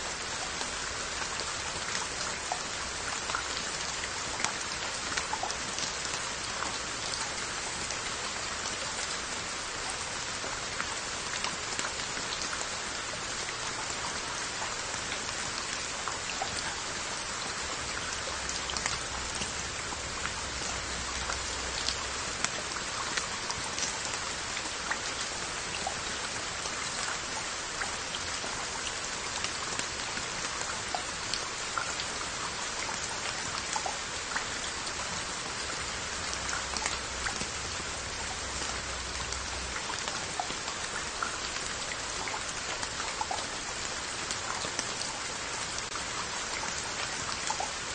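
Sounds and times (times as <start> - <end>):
rain on clay pots: 0.0 - 47.9.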